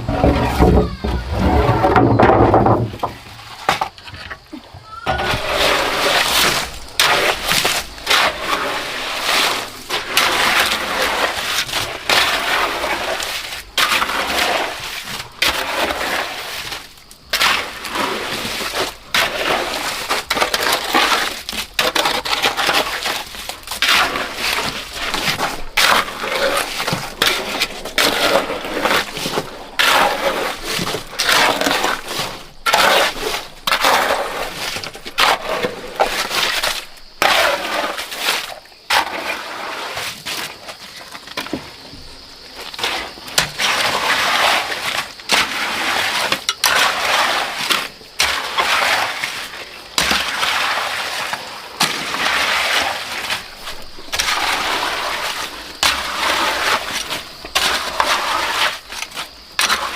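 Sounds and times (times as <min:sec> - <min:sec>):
shovel scraping concrete mix: 0:00.0 - 0:59.9.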